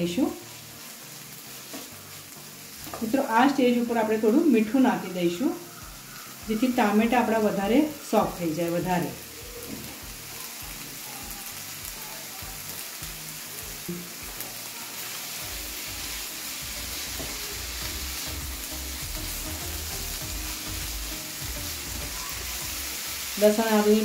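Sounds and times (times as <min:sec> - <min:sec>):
masala sizzling in oil: 0:00.0 - 0:24.0.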